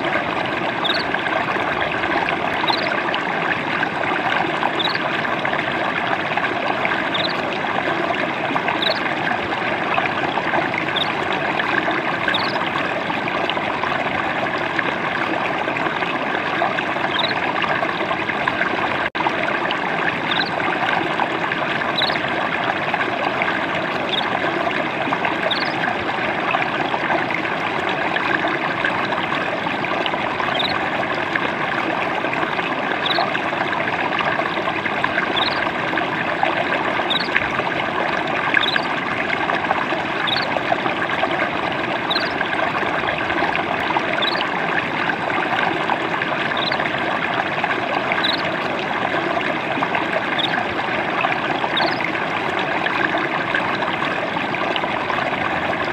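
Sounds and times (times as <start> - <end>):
water babbling over stones: 0.0 - 55.9.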